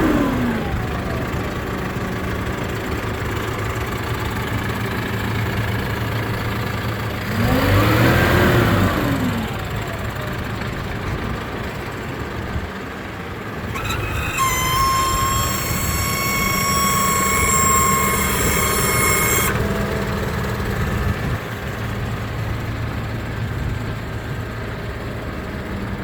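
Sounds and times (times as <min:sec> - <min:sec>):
tractor diesel engine idling: 0:00.0 - 0:26.0
tractor engine revving: 0:00.0 - 0:26.0.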